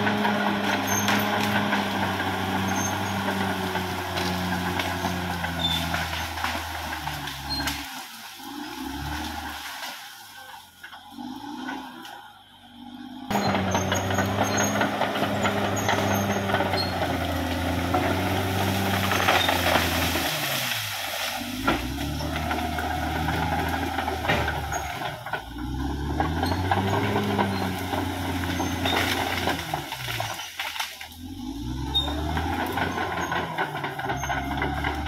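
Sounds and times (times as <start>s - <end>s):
bulldozer diesel engine working: 0.0s - 35.0s.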